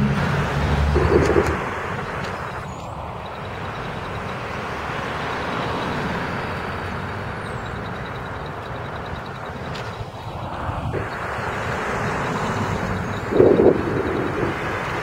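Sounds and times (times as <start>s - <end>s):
bus driving past: 0.0s - 15.0s.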